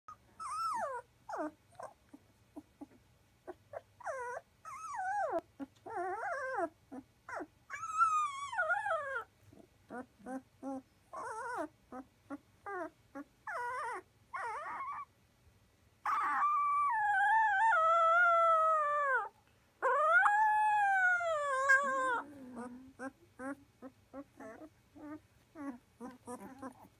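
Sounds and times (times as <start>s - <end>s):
puppies whimpering and squealing: 0.4s - 12.1s, 12.7s - 15.1s, 16.1s - 26.9s.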